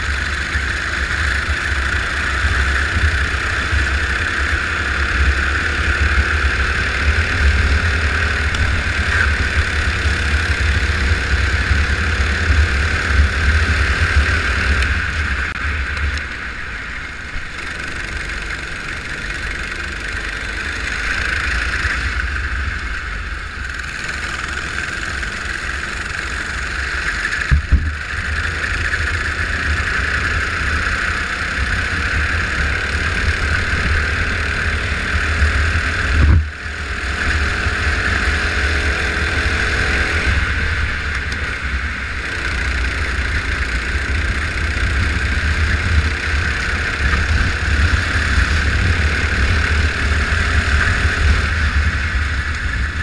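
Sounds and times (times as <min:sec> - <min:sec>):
go-kart engine running: 0:00.0 - 0:53.0.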